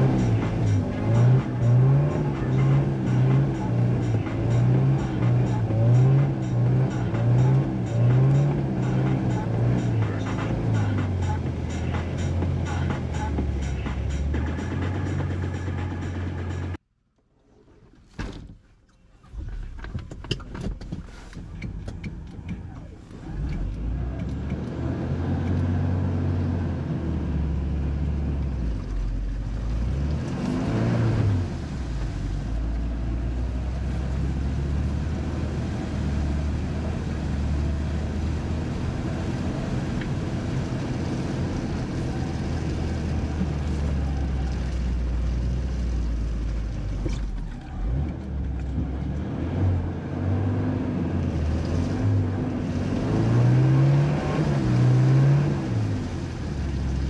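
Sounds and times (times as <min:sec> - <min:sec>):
off-road vehicle engine revving: 0:00.0 - 0:16.8, 0:21.4 - 0:57.0.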